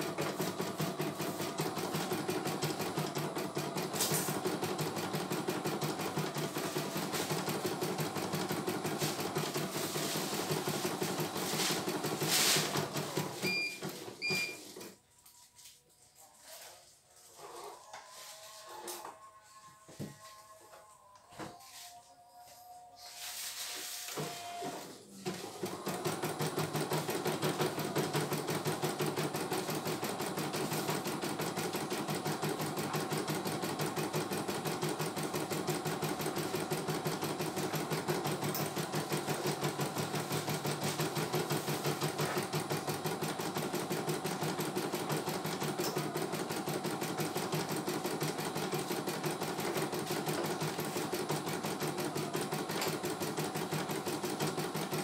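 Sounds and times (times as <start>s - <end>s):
embroidery machine stitching: 0.0s - 14.6s, 24.1s - 55.0s.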